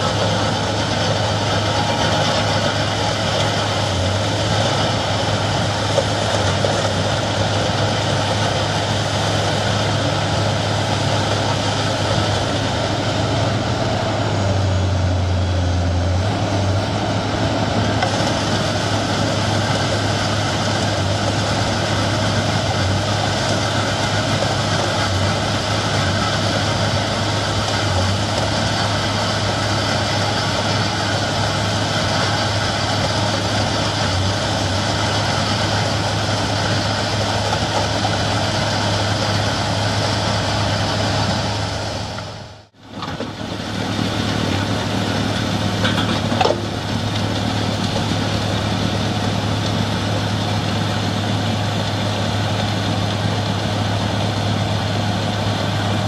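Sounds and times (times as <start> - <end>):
diesel engine droning under load: 0.0 - 56.0
snow blower rushing noise: 0.0 - 56.0.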